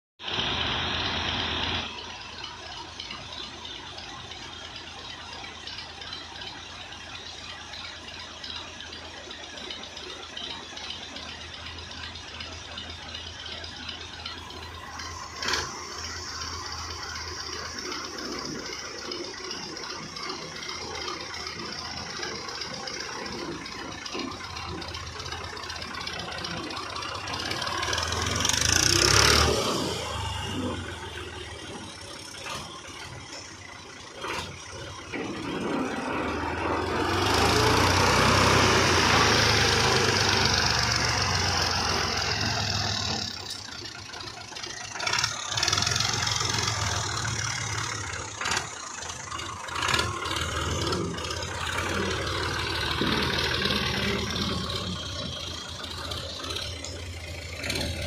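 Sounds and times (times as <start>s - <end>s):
tractor diesel engine running: 0.2s - 58.0s.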